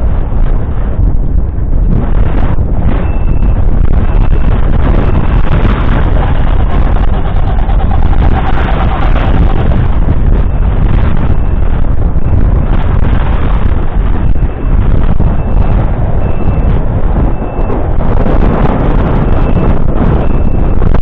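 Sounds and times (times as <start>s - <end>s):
tractor diesel engine running: 1.8s - 20.5s.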